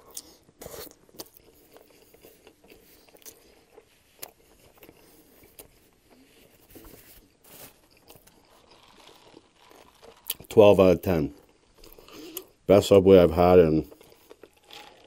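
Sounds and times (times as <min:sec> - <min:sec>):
chewing with wet mouth sounds: 0:00.0 - 0:12.7, 0:13.8 - 0:15.0.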